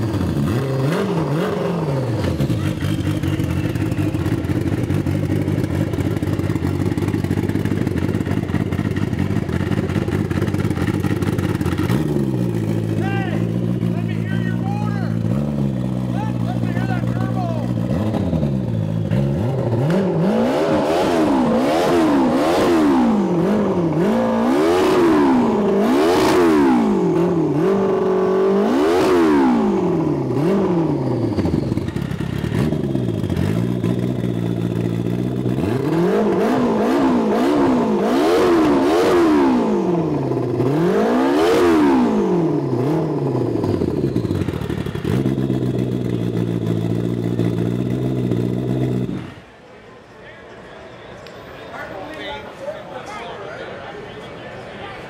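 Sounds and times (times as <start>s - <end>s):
snowmobile engine revving: 0.0s - 5.9s, 10.3s - 49.4s.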